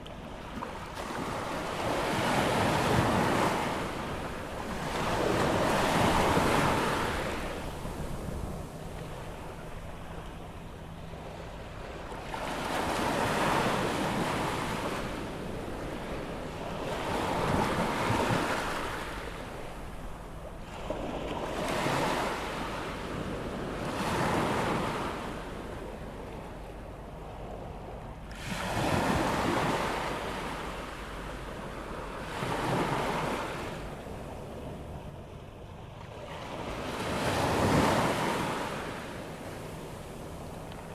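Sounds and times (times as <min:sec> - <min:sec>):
ocean waves breaking: 0:00.1 - 0:40.9.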